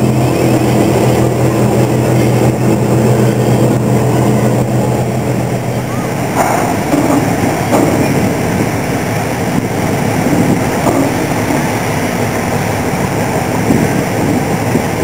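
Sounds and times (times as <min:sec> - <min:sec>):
ferry engines rumbling: 0:00.0 - 0:15.0
propeller wash churning: 0:00.0 - 0:15.0.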